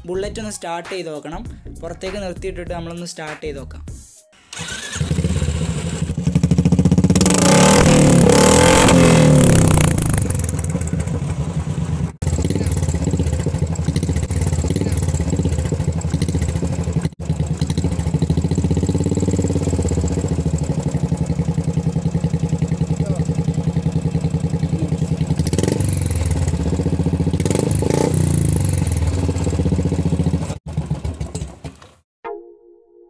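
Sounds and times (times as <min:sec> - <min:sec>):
motorcycle engine revving and idling: 0:04.6 - 0:32.0.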